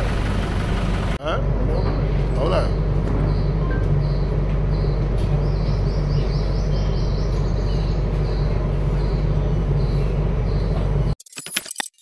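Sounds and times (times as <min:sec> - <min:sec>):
diesel generator humming: 0:00.0 - 0:11.2
birds chirping: 0:01.0 - 0:11.2.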